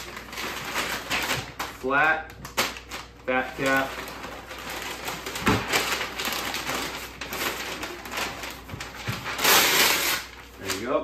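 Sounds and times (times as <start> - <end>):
paper rustling and crinkling: 0.0 - 1.8, 2.4 - 11.0.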